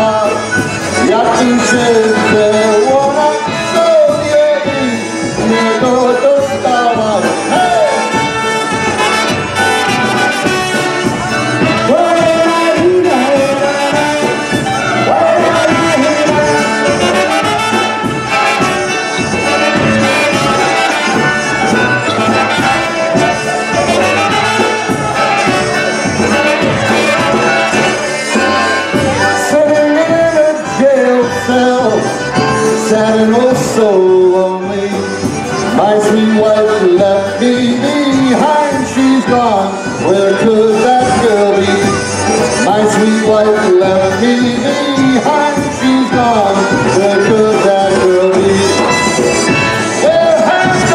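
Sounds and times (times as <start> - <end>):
clarinet: 0.0 - 50.9
polka band playing: 0.0 - 50.9
trumpet: 0.0 - 50.9.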